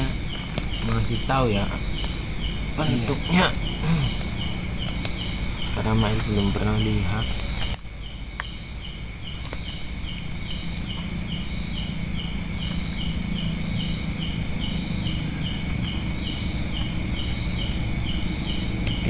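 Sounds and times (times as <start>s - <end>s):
crickets chirring: 0.0s - 19.0s
pulsing insect call: 0.0s - 19.0s.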